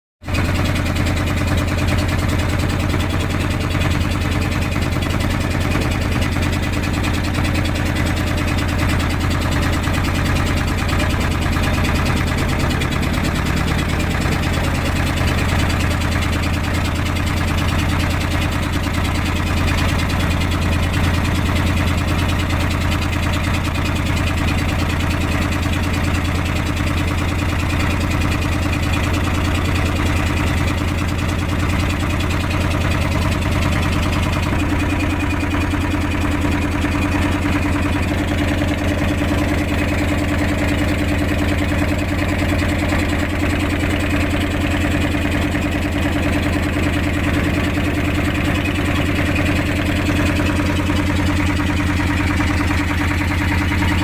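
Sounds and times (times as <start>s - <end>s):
boat engine droning: 0.2s - 54.0s.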